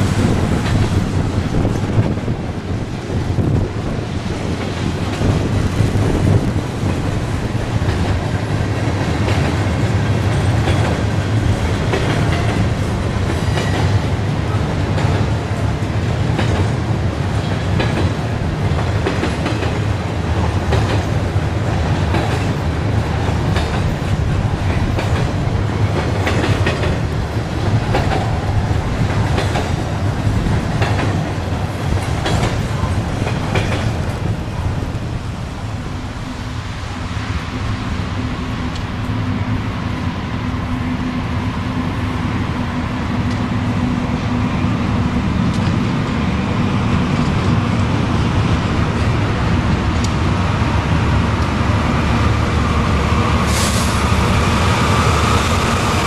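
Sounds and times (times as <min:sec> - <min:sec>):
train wheels clicking over rail joints: 0:00.0 - 0:36.5, 0:44.9 - 0:56.0
diesel locomotive engine hum: 0:00.0 - 0:56.0
freight train rumble: 0:00.0 - 0:56.0.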